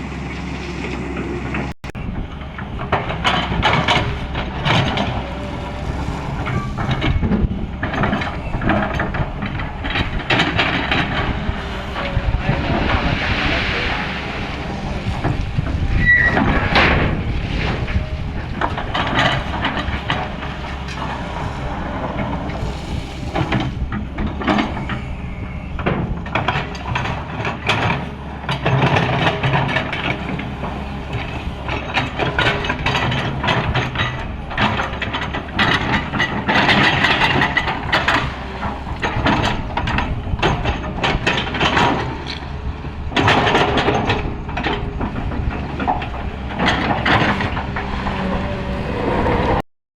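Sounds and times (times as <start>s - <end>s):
excavator diesel engine running: 0.0s - 49.6s
machine knocks and scrapes: 0.4s - 49.6s.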